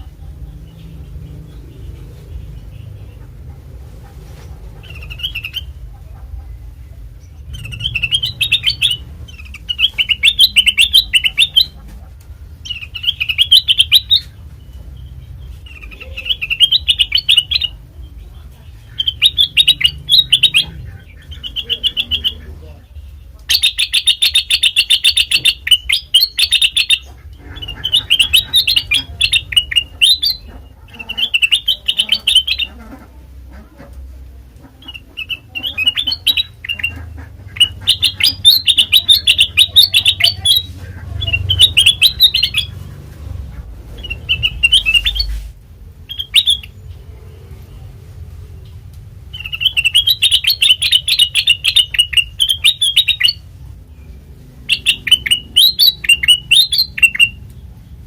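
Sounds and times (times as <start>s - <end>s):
bulbul chattering trills: 0.0s - 45.4s, 46.0s - 58.0s.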